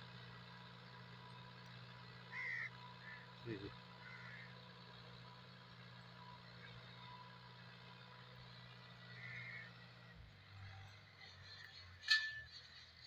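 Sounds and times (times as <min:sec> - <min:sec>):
distant tractor engine hum: 0:00.0 - 0:13.0.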